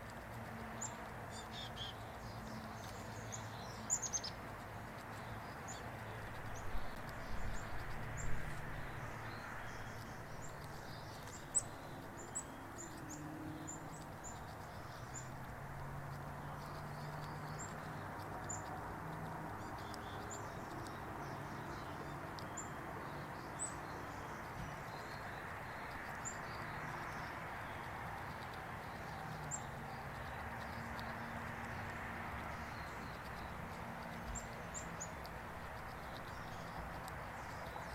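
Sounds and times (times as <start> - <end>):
outdoor background noise: 0.0 - 37.9
small birds chirping: 0.0 - 37.9.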